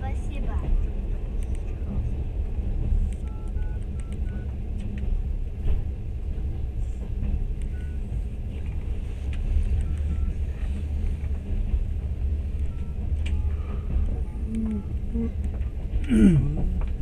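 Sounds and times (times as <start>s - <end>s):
moving train rumble: 0.0s - 17.0s.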